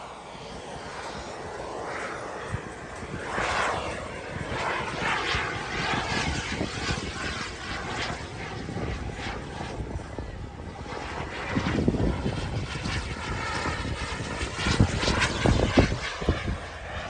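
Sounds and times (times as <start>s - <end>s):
model airplane engines: 0.0s - 17.0s.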